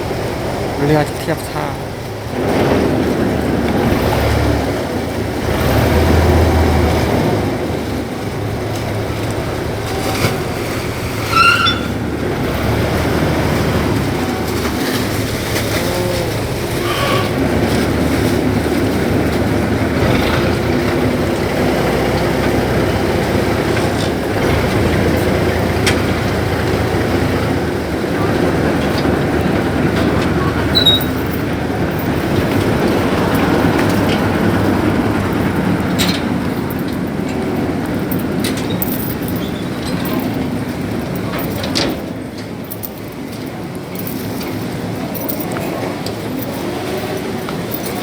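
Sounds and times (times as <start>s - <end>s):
boat engine droning: 0.0s - 48.0s
water noise: 0.0s - 48.0s.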